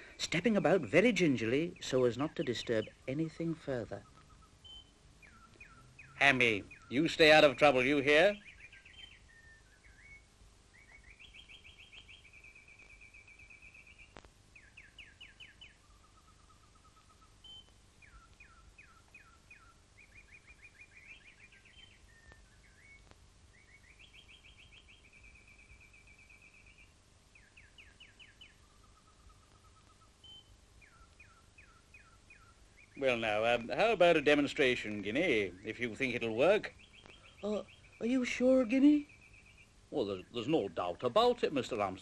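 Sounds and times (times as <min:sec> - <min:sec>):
low background hiss: 0:00.0 - 0:42.0
songbird trilling: 0:00.3 - 0:42.0.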